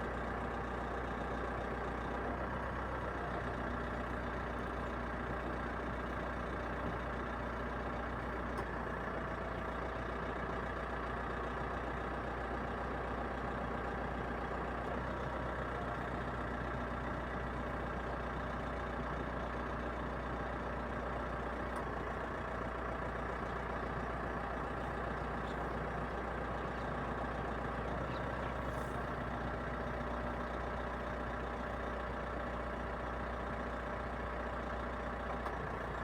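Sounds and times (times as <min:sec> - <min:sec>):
engine hum: 0:00.0 - 0:36.0.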